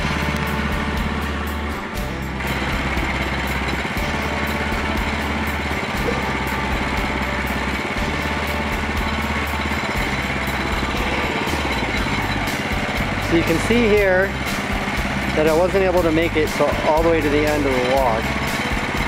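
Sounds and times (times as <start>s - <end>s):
bandsaw mill cutting log: 0.0s - 19.0s.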